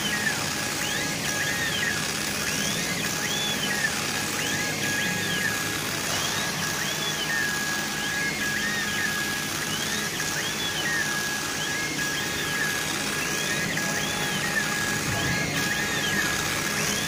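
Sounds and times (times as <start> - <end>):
laser engraver motors whining: 0.0 - 17.0.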